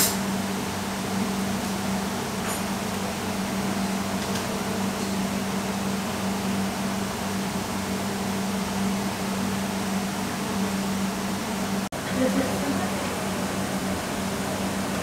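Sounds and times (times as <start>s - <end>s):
kitchen equipment hum and hiss: 0.0s - 15.0s.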